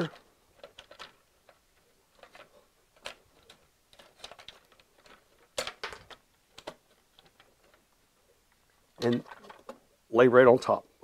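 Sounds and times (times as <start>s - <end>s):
plastic and wire clicks and rustles: 0.0s - 9.9s.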